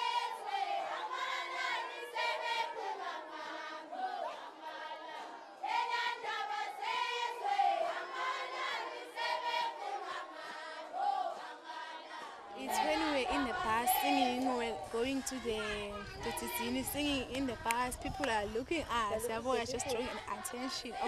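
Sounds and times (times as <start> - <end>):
group of voices chanting: 0.0 - 21.0.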